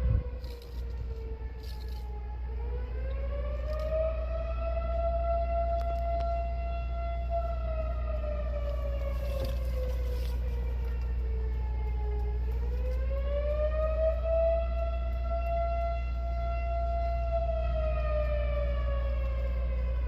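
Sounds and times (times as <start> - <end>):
air raid siren wailing: 0.0 - 20.0.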